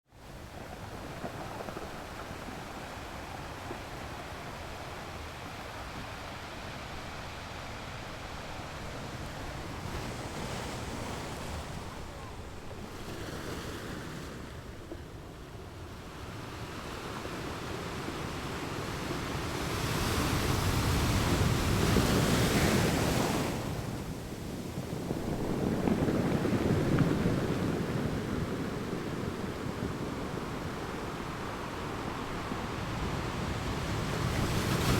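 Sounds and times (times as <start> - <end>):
sea waves washing: 0.1 - 34.9
wind buffeting microphone: 0.2 - 34.9.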